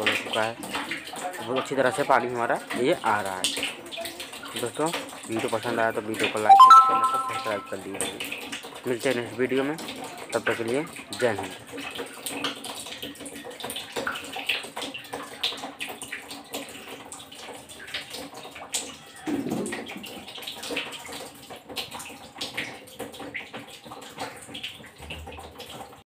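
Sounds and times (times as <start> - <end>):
water splashing from a pipe: 0.0 - 6.4, 7.8 - 26.0.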